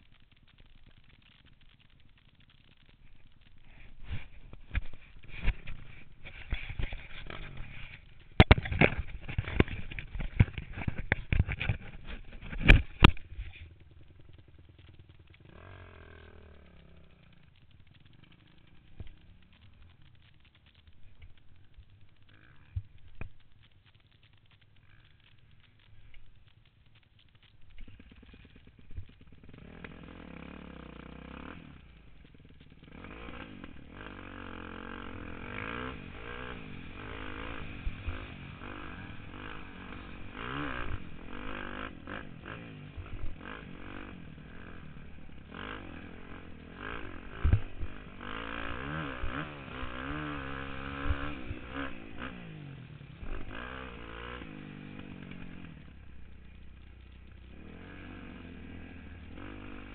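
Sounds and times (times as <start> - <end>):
dirt bike engine revving: 1.0 - 21.2, 21.8 - 23.0, 27.2 - 59.9.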